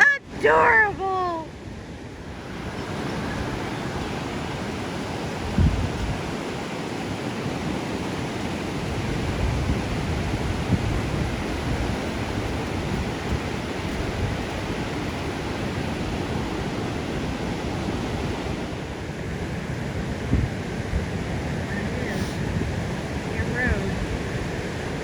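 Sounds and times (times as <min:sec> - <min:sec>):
ocean surf washing on beach: 0:00.0 - 0:25.0
wind buffeting microphone: 0:00.0 - 0:25.0.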